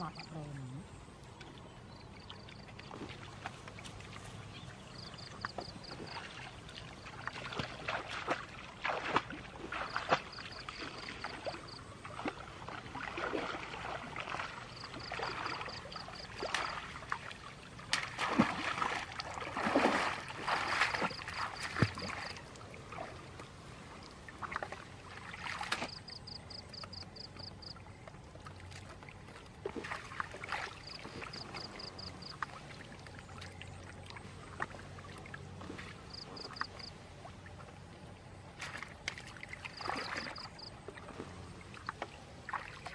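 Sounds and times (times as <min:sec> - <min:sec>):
muddy water splashing and sloshing: 0:00.0 - 0:42.9.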